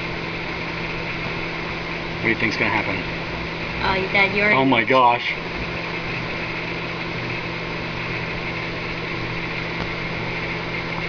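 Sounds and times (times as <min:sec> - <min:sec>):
fan whirring: 0:00.0 - 0:11.0
microwave oven humming: 0:00.0 - 0:11.0.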